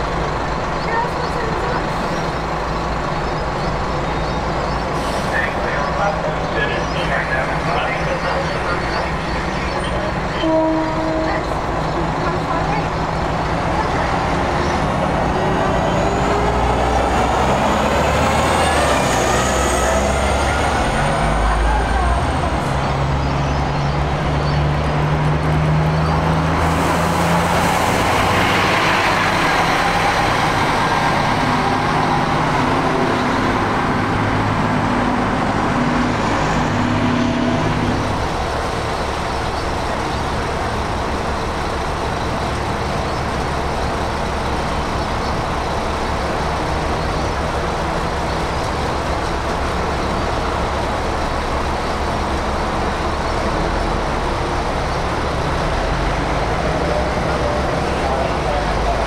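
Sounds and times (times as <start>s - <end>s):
diesel bus engines: 0.0s - 59.0s.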